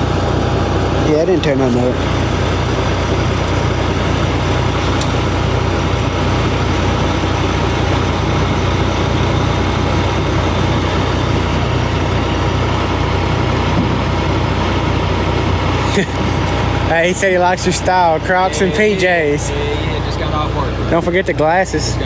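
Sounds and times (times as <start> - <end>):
heavy truck engine idling: 0.0 - 22.0.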